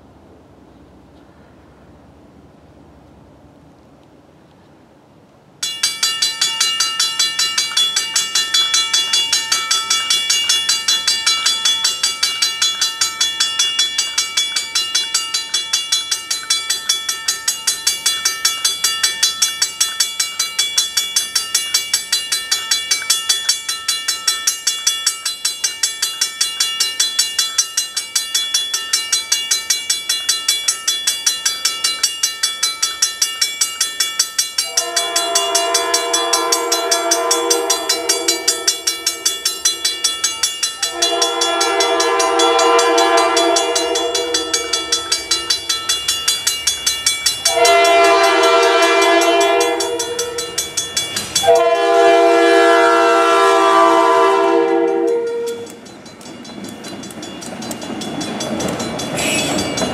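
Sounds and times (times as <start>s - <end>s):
railroad crossing bell ringing: 5.6s - 59.9s.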